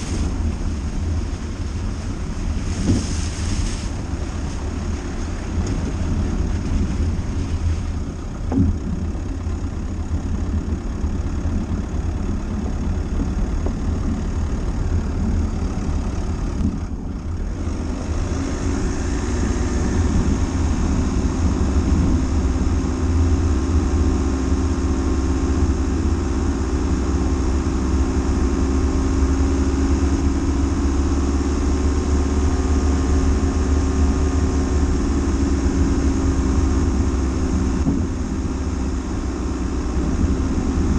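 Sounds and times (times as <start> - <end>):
engine and tyre rumble: 0.0 - 40.9.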